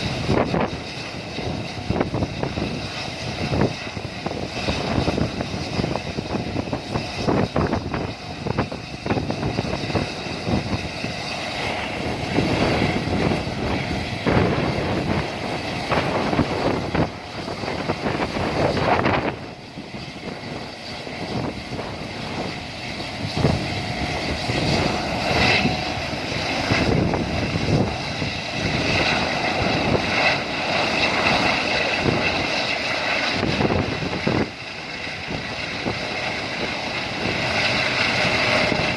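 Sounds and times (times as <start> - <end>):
helicopter engine whine: 0.0 - 38.9
helicopter rotor noise: 0.0 - 38.9
wind noise: 0.0 - 38.9.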